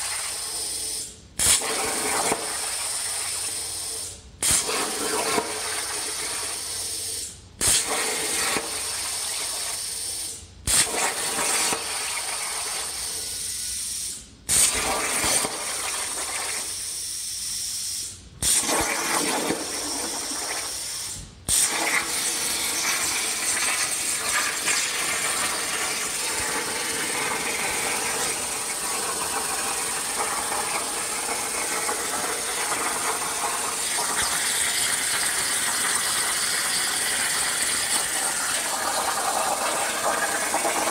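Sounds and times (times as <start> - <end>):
plasma cutter arc hissing: 0.0 - 40.9
torch piercing burst: 1.4 - 3.8, 4.4 - 6.9, 7.6 - 13.8, 14.5 - 16.9, 18.4 - 40.9.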